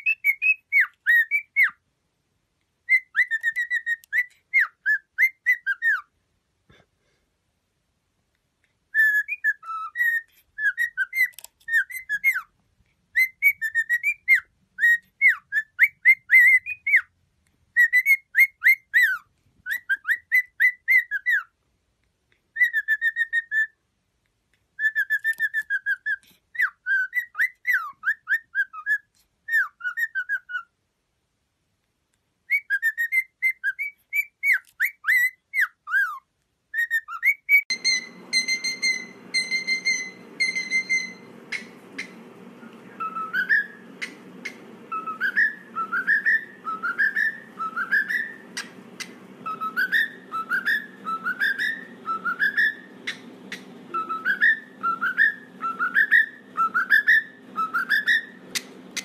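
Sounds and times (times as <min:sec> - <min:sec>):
cockatiel whistling: 0:00.0 - 0:01.8, 0:02.8 - 0:06.1, 0:08.9 - 0:12.5, 0:13.1 - 0:17.1, 0:17.7 - 0:21.5, 0:22.5 - 0:23.8, 0:24.8 - 0:30.7, 0:32.5 - 0:59.0.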